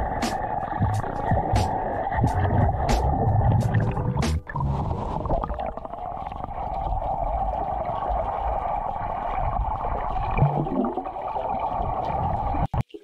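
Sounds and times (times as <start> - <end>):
muffled underwater stream rush: 0.0 - 13.0.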